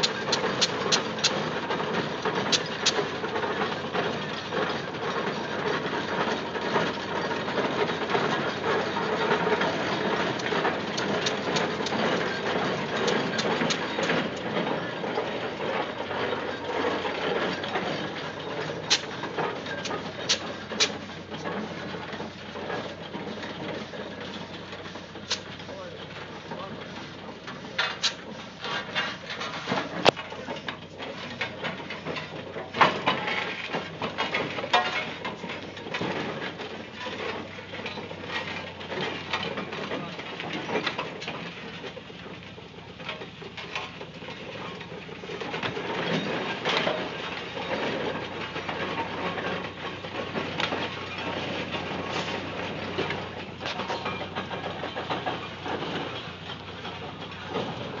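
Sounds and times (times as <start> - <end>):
iron wheels clanking on road: 0.0 - 58.0
steam roller engine running: 0.0 - 58.0.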